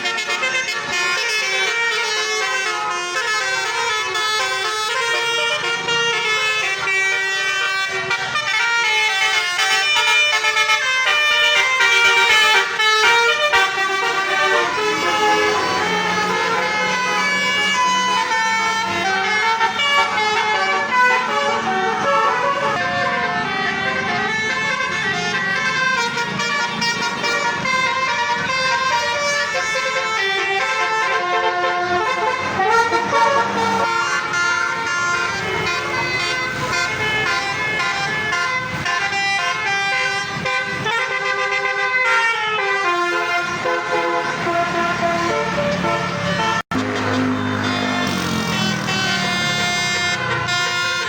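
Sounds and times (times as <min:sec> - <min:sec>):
bus engines running: 0:00.0 - 0:51.0
musical air horns playing tunes: 0:00.0 - 0:51.0.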